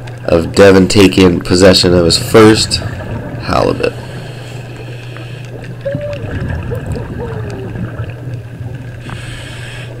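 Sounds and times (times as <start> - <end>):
low underwater hum: 0.0 - 10.0
exhaled bubbles gurgling: 1.0 - 10.0.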